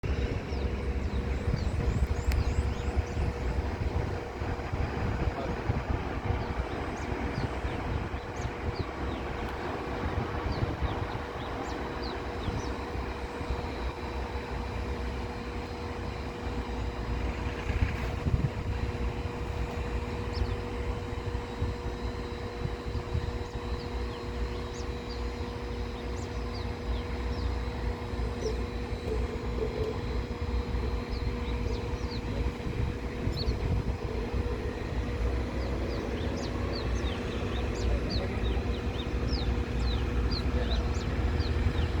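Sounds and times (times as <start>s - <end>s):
wind on microphone: 0.0s - 14.8s, 17.4s - 25.6s, 28.7s - 40.2s
distant jet engines rumbling: 0.0s - 42.0s.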